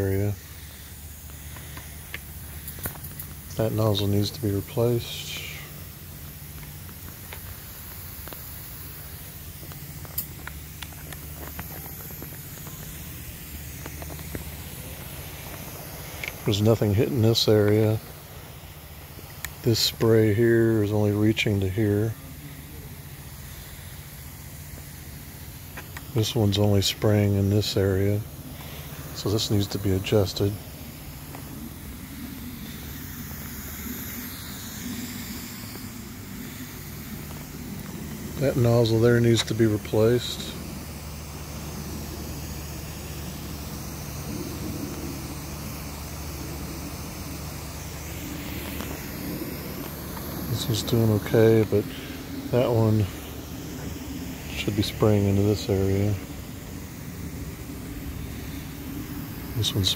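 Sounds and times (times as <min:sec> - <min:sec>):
low hum: 0:00.0 - 0:59.9
sprinkler heads hissing: 0:00.0 - 0:59.9.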